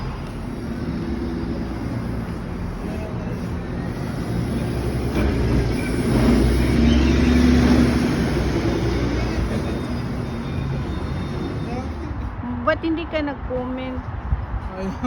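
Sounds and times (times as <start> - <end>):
city bus rumble: 0.0 - 15.0.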